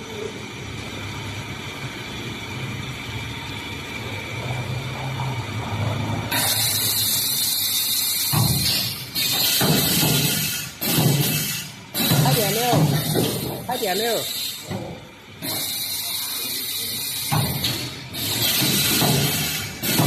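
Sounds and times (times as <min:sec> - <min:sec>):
welding machine humming: 0:00.3 - 0:20.0.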